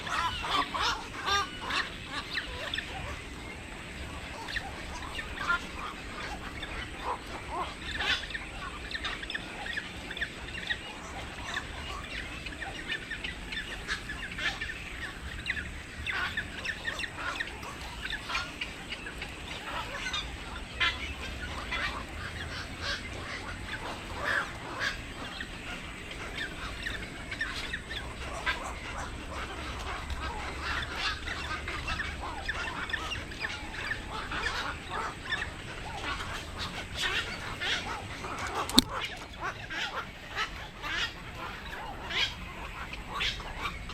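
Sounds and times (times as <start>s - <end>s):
birds chattering harshly: 0.0s - 43.9s.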